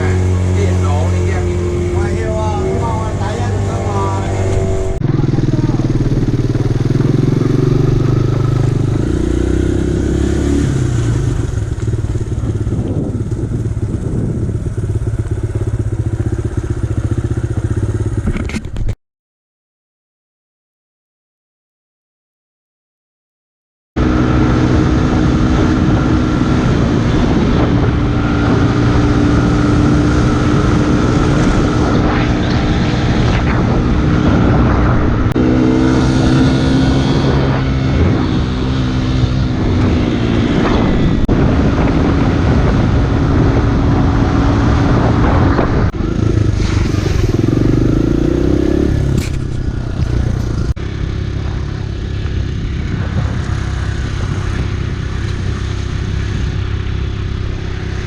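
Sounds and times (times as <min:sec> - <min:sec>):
dirt bike engine running: 0:00.0 - 0:18.9, 0:24.0 - 0:58.0
wind and road noise: 0:00.0 - 0:19.0, 0:24.0 - 0:58.0.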